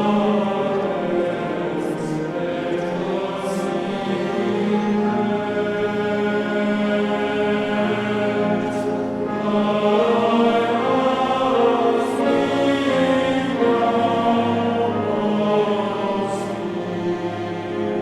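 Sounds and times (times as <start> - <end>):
choir singing sustained chords: 0.0 - 18.0.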